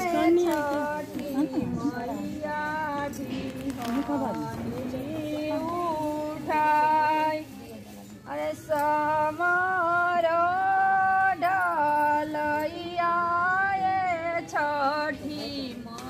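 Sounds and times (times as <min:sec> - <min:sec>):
woman singing folk song: 0:00.0 - 0:07.5, 0:08.3 - 0:16.0.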